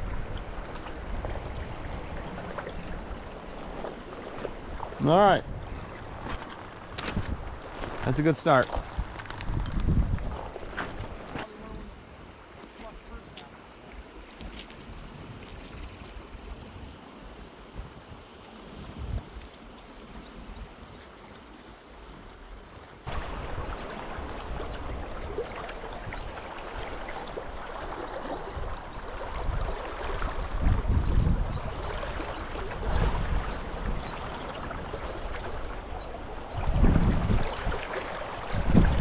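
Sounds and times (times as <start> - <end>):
wind buffeting microphone: 0.0 - 21.0, 23.0 - 39.0
rushing river water: 0.0 - 39.0.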